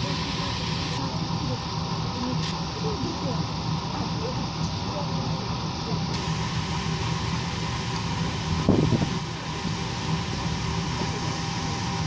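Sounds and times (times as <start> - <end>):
ship engine hum: 0.0 - 12.0.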